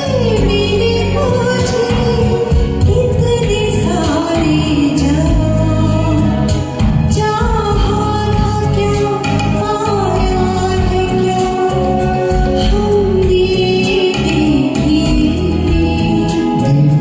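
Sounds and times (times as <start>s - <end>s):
backing music with strong bass: 0.0s - 17.0s
karaoke singing: 0.0s - 17.0s.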